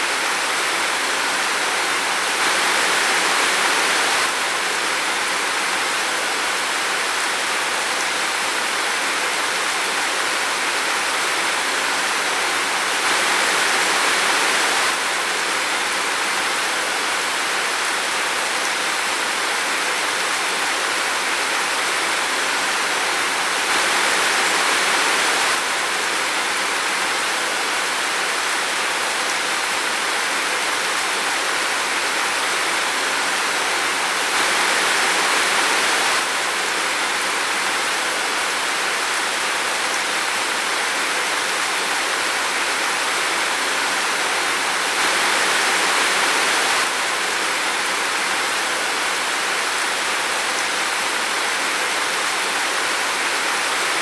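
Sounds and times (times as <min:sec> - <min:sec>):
heavy rain in a forest: 0:00.0 - 0:54.0.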